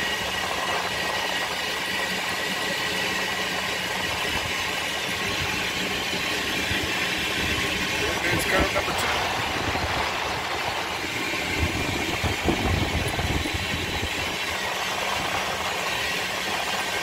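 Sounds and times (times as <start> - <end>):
electric golf cart driving: 0.0 - 17.0.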